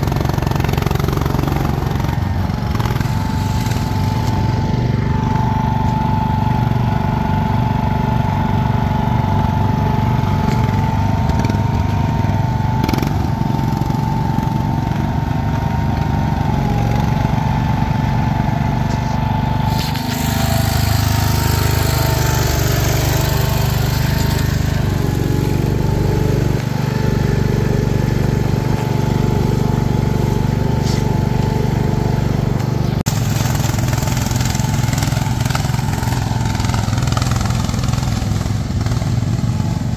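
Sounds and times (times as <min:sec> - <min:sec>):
small tractor engines running hard: 0:00.0 - 0:39.9.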